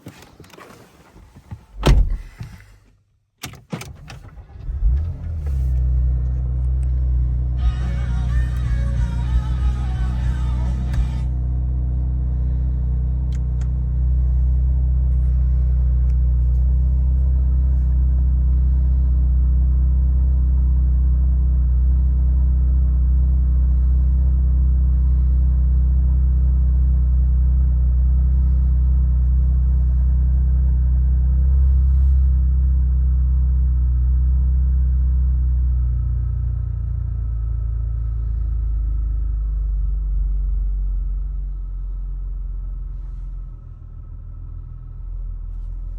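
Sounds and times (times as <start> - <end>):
car engine idling: 4.2 - 45.9.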